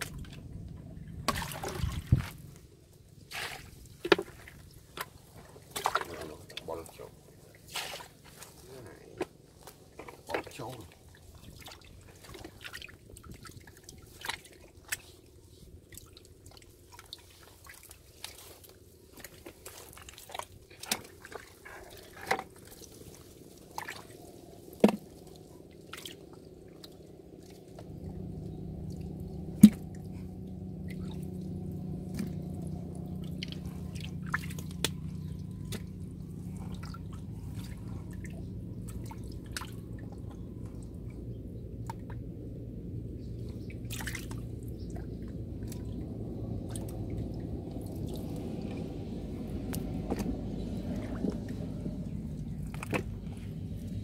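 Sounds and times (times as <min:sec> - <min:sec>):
muddy water splashing: 0:00.0 - 0:54.0.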